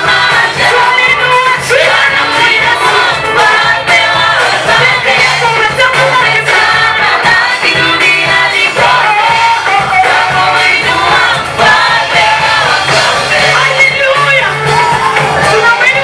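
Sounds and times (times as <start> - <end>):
choir singing gospel song: 0.0 - 16.0
steady bass line: 0.0 - 16.0.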